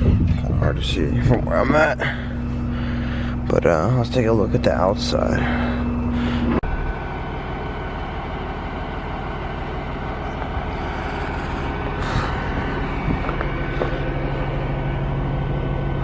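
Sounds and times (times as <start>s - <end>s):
large vehicle engine idling: 0.0s - 16.0s.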